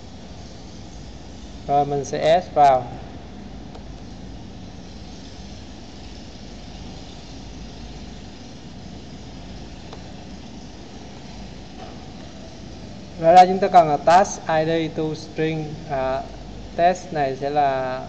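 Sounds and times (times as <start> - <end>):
low hum with hiss: 0.0 - 18.0.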